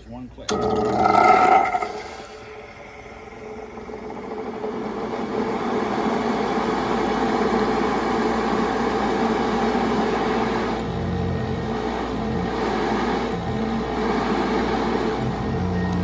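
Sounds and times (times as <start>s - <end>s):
vacuum cleaner motor hum: 0.5s - 16.0s.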